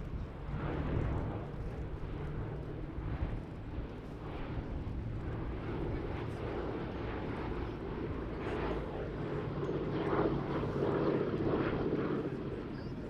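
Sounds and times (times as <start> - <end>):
aircraft piston engines droning: 0.0 - 13.0.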